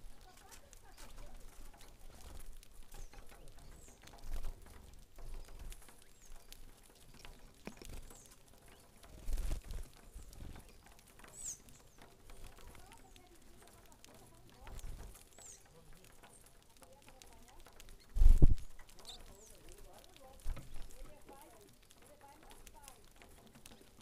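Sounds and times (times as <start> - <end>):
birds pecking on wood: 0.0 - 24.0
low bumps: 1.2 - 24.0.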